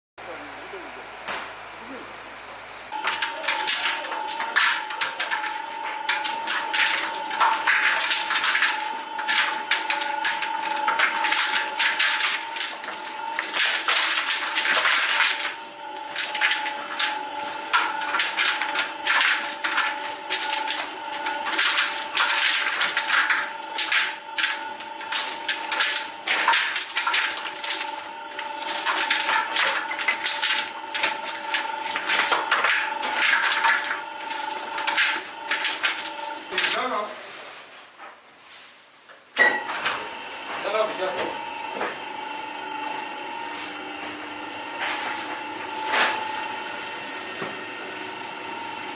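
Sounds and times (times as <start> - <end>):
machine humming: 0.2 - 37.2, 39.4 - 48.9.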